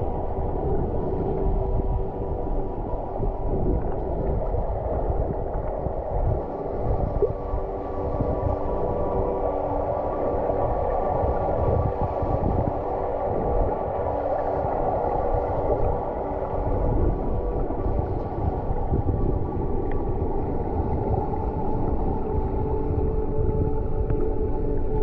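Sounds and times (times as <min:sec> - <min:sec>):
faint steady tones: 0:00.0 - 0:25.0
underwater river rush: 0:00.0 - 0:25.0.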